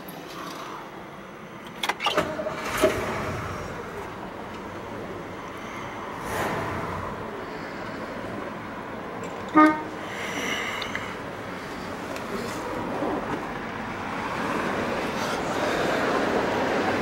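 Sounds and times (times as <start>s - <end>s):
car engine starting and running: 1.2s - 15.6s.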